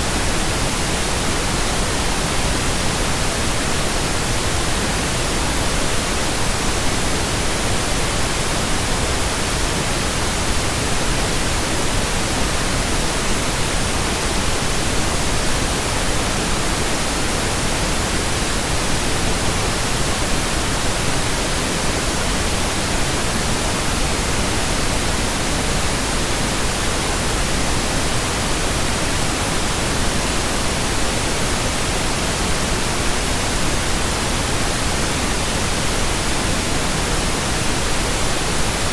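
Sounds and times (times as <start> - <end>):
steady pink noise hiss: 0.0 - 38.9.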